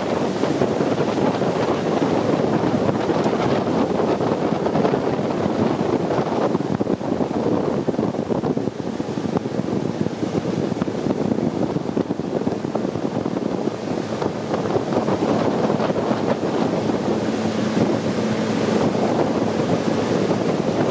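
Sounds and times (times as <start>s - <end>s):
boat engine running: 0.0s - 20.9s
water rushing along hull: 0.0s - 20.9s
wind buffeting microphone: 0.0s - 20.9s.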